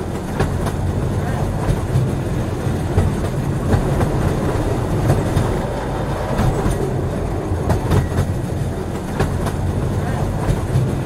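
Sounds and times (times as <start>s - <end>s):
freight train cars rumbling: 0.0s - 11.0s
wheels clicking on track: 0.0s - 11.0s.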